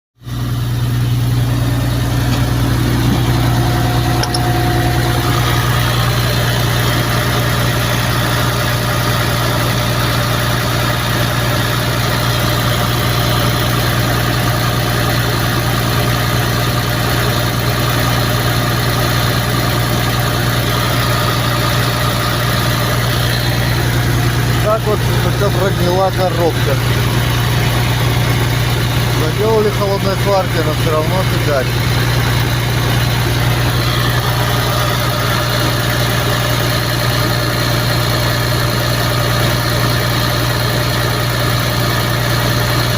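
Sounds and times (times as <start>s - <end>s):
diesel truck engine idling: 0.2s - 42.9s.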